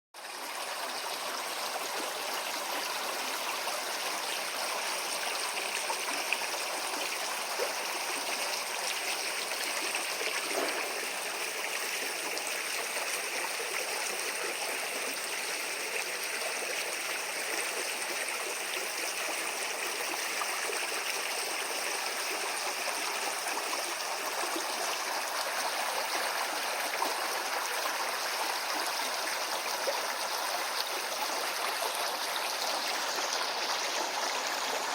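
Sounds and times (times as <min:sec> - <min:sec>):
stream flowing over stones: 0:00.2 - 0:34.9.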